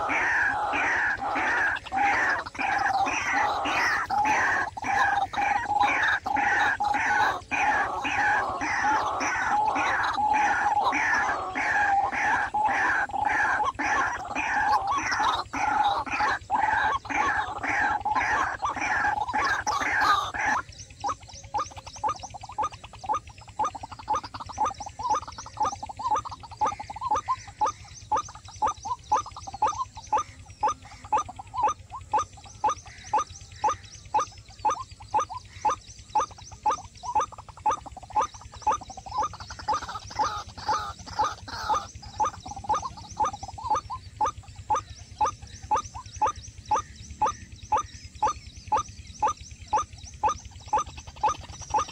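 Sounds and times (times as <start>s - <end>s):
waterhen calling: 0.0s - 51.9s.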